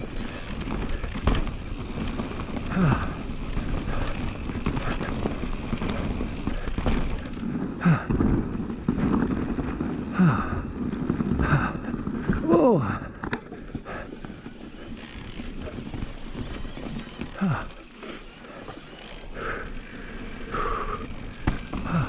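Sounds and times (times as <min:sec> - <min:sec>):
bike rattling and knocking: 0:00.0 - 0:22.0
bike tyres on rough snowy trail: 0:00.0 - 0:22.0
rider grunting: 0:00.2 - 0:08.6, 0:10.0 - 0:16.1, 0:17.0 - 0:22.0.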